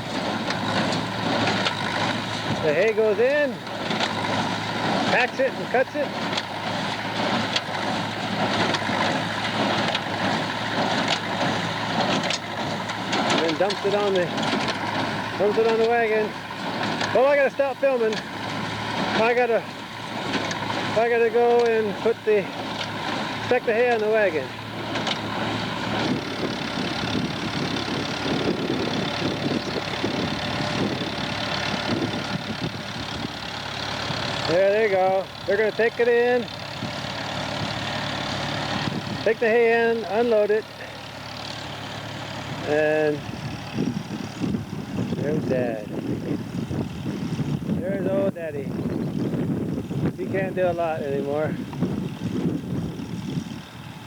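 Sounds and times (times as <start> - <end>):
baler running: 0.0 - 54.0.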